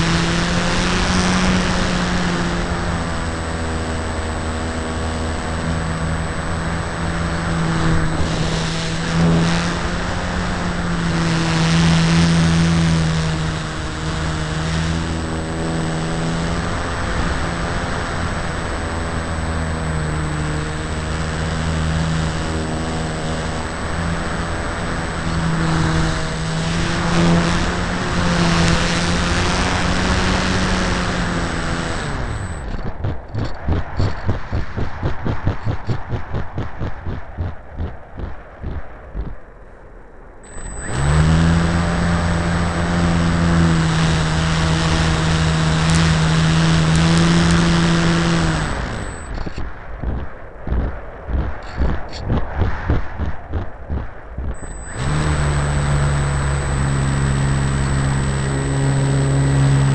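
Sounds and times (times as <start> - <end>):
fast fluttering rattle: 0.0 - 39.4, 40.5 - 59.9
model plane motor and propeller: 0.0 - 39.4, 40.5 - 59.9.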